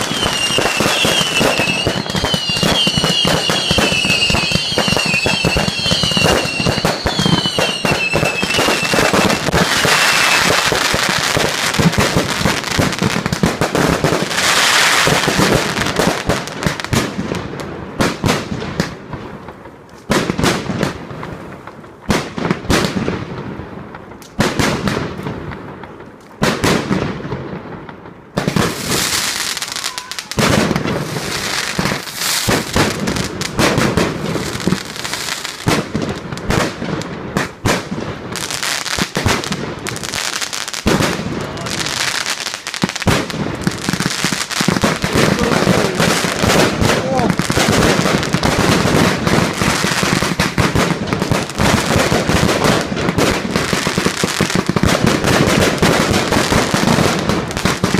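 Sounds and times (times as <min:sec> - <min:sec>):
fireworks whistling: 0:00.0 - 0:17.1, 0:28.4 - 0:57.9
fireworks crackling and banging: 0:00.0 - 0:57.9.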